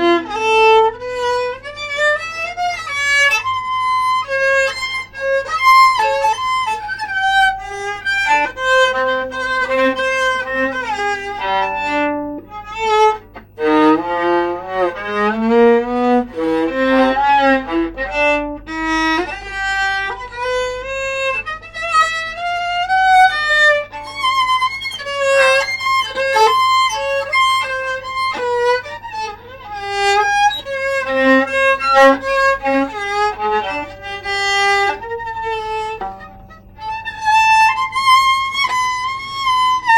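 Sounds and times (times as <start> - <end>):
bowed viola melody: 0.0 - 39.9.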